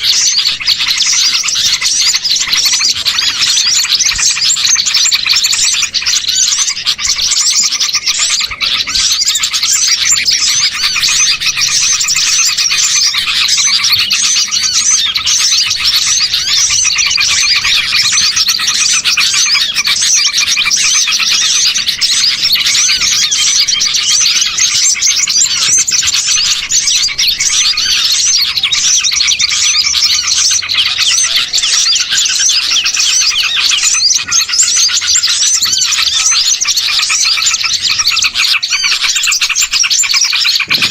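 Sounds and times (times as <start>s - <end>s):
chorus of songbirds chirping: 0.0s - 40.9s.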